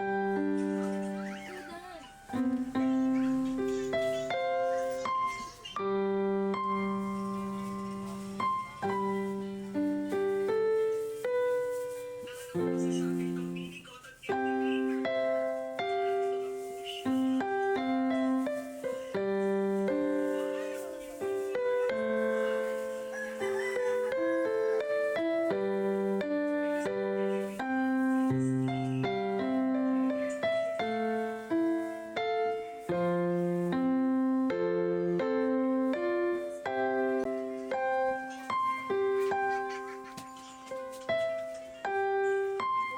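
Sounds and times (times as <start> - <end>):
keyboard chords: 0.0 - 42.9
slow piano music: 0.0 - 42.9.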